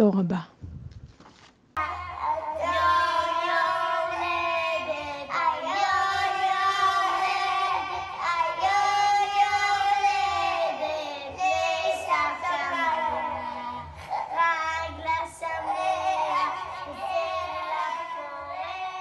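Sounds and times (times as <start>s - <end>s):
girl singing into toy microphone: 1.8s - 19.0s.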